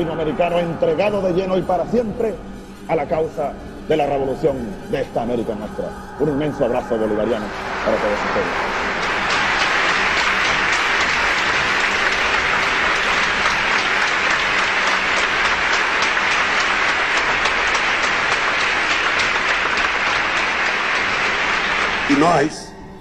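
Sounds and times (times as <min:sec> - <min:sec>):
audience applauding: 0:03.9 - 0:22.7.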